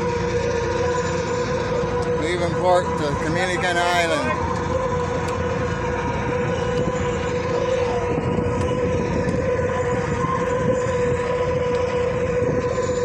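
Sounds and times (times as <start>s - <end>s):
ferry engines rumbling: 0.0s - 13.0s.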